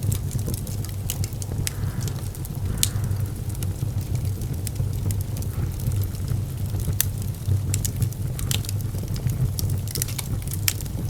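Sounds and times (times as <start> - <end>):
fire crackling and popping: 0.0 - 11.0
fire rumbling: 0.0 - 11.0.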